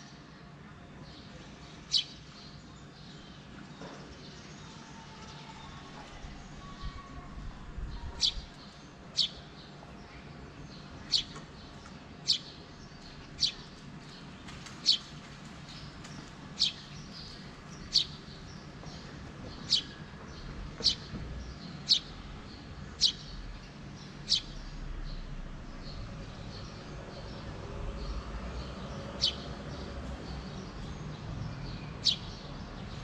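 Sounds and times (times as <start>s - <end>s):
faint background hum: 0.0s - 33.0s.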